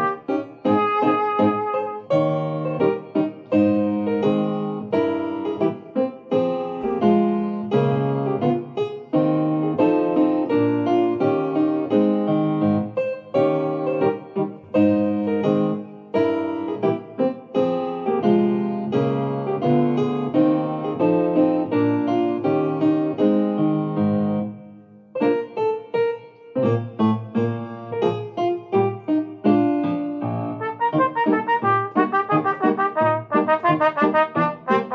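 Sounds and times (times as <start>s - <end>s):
piano chords: 0.0s - 34.9s.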